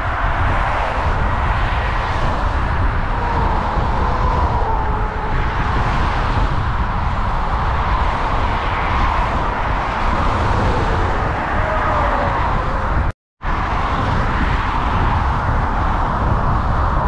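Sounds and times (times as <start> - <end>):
rolling road noise: 0.0 - 17.0
wind buffeting microphone: 0.0 - 17.0.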